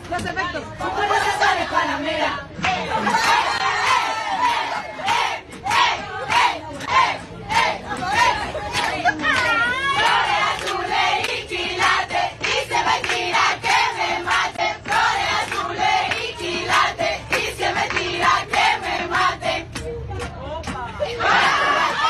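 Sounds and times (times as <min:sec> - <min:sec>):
women singing: 0:00.1 - 0:22.0
rhythmic hand clapping: 0:02.6 - 0:20.9.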